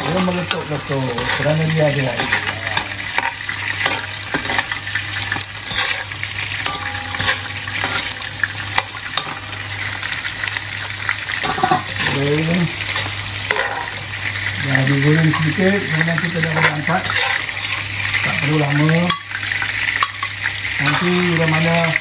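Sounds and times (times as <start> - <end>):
prawns sizzling in hot oil: 0.0 - 22.0.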